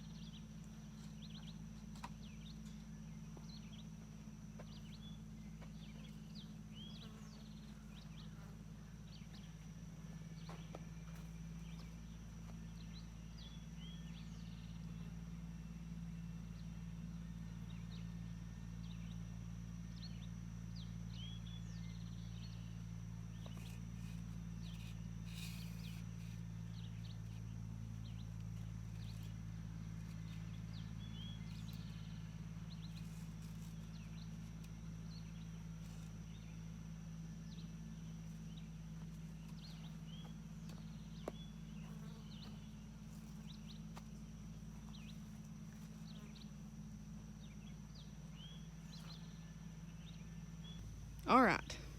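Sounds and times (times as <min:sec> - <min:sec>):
low engine hum: 0:00.0 - 0:51.9.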